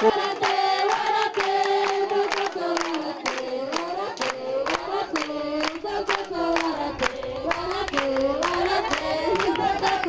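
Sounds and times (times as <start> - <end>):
people clapping: 0.0 - 10.0
women and children singing: 0.0 - 10.0.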